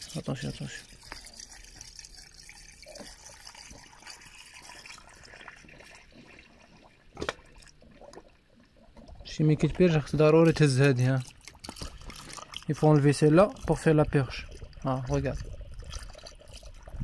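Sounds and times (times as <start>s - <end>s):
coolant trickling and hissing: 0.0s - 17.0s.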